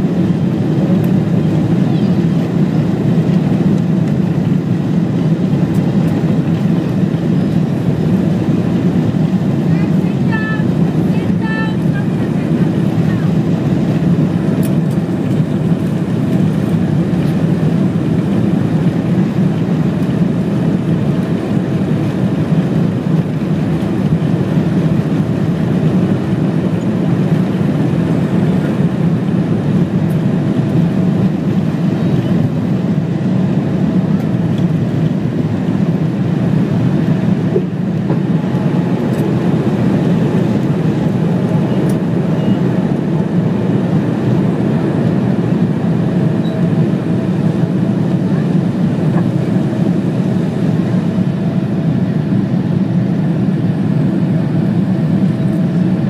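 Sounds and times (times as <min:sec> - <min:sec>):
airplane cabin rumble on takeoff: 0:00.0 - 0:56.0.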